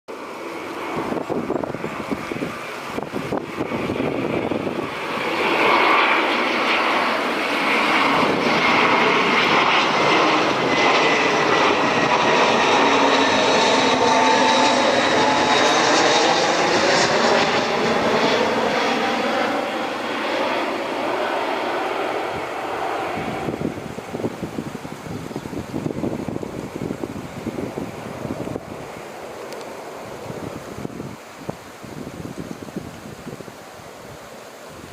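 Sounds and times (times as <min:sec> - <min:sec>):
jet engines passing close: 0:00.1 - 0:34.9
thin jet engine whine: 0:00.1 - 0:34.9.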